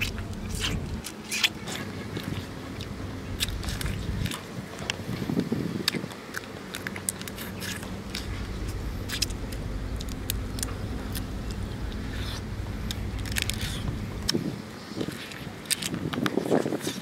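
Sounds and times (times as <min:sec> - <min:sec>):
crab shell crackling: 0:00.0 - 0:14.4
low motor-like hum: 0:00.0 - 0:17.0.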